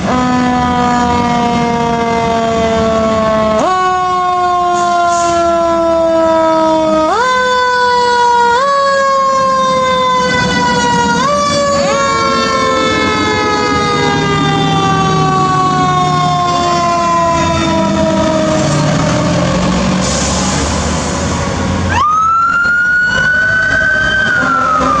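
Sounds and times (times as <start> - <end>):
truck engines rumbling: 0.0 - 25.0.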